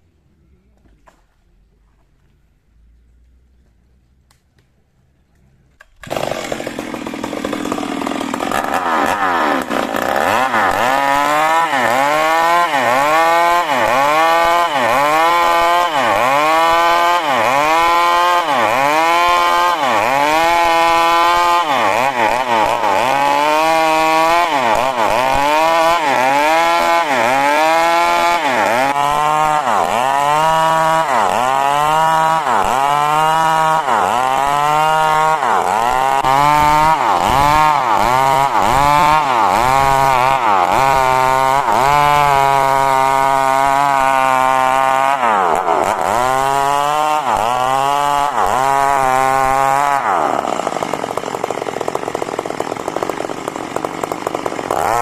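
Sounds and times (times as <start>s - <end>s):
chainsaw cutting wood: 5.8s - 55.0s.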